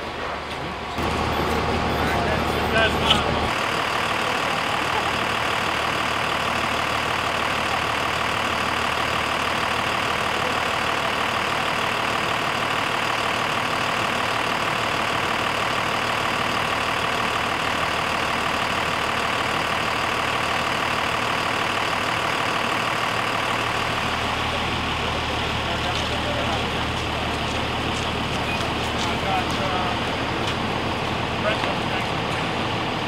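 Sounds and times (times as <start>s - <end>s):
fire engine running: 0.0s - 33.0s.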